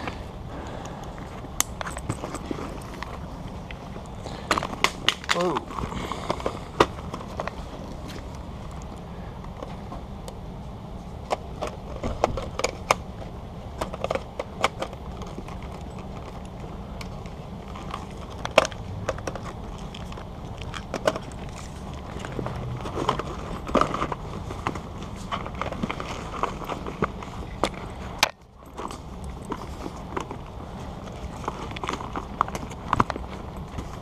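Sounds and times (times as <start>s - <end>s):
low background hum: 0.0s - 34.0s
handling clicks taps and rustles: 0.8s - 10.4s, 11.2s - 34.0s.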